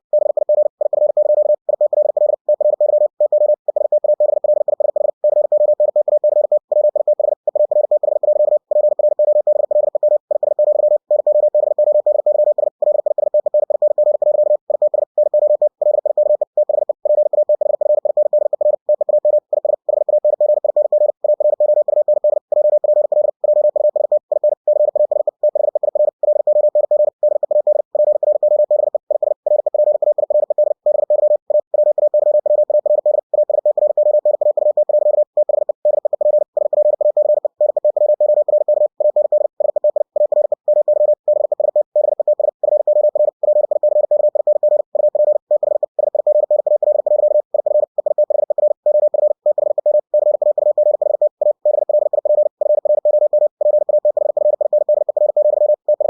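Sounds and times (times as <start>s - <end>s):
morse code tone: 0.0s - 56.0s.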